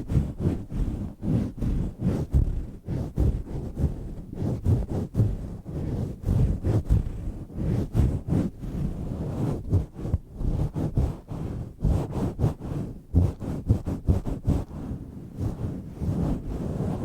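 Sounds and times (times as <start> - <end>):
microphone cover rubbing rumble: 0.0 - 17.0.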